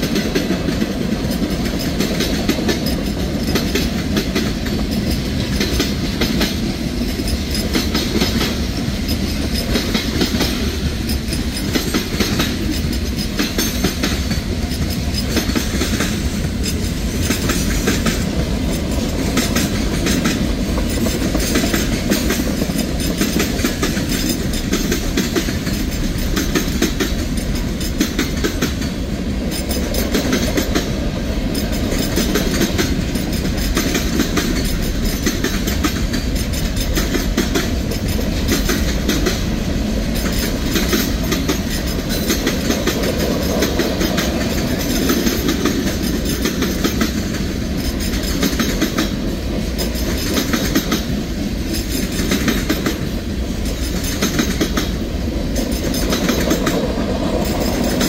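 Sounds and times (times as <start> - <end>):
steel wheels rumbling on rail: 0.0 - 58.0
wheels clicking over track: 0.0 - 58.0.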